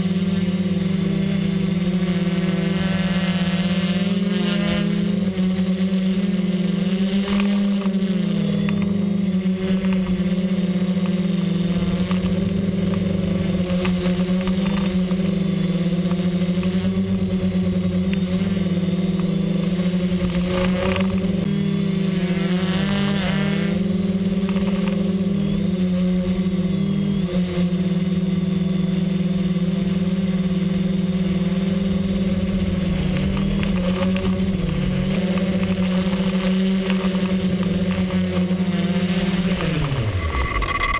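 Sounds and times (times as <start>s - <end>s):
drone propellers humming: 0.0s - 40.9s.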